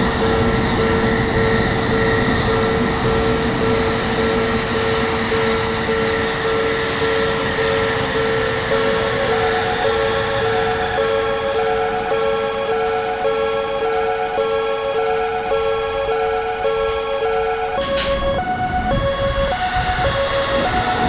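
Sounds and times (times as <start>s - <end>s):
passing train: 0.0s - 21.0s
railroad crossing alarm ringing: 0.0s - 21.0s.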